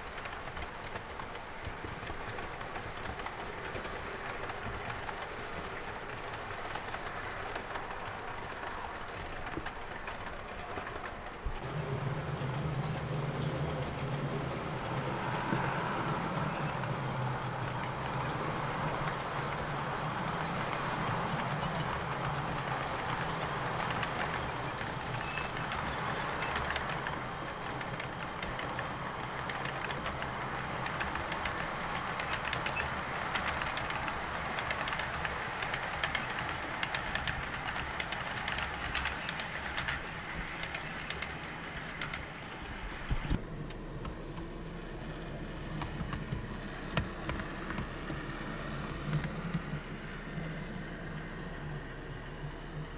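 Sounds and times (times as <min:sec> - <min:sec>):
wheels clicking over rail joints: 0:00.0 - 0:50.7
model train rumbling: 0:00.0 - 0:52.9.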